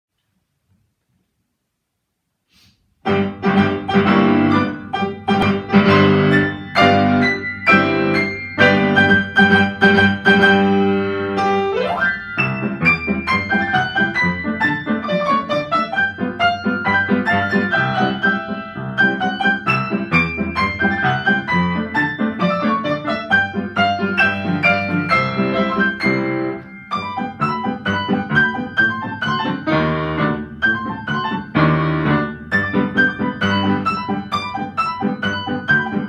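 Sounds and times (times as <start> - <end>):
upright piano four hands: 3.0 - 36.0.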